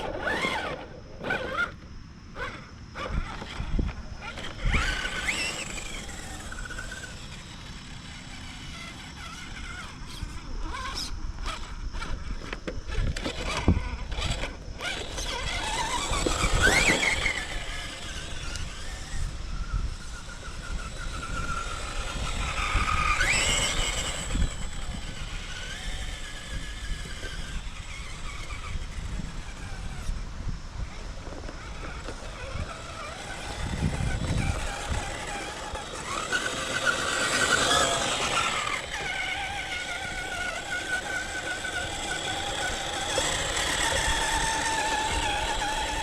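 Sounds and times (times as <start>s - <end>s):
electric motor whining: 0.0s - 46.0s.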